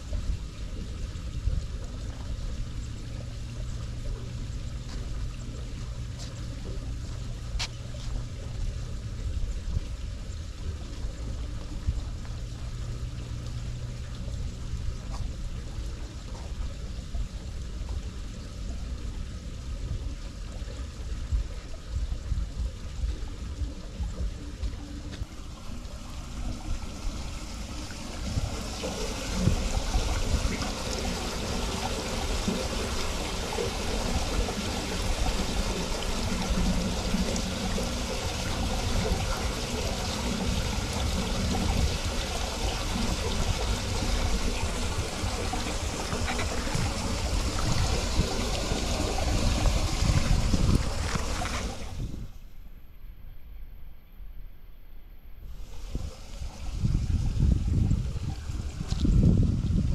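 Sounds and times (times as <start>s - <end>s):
water trickling through drain grate: 0.0s - 52.3s.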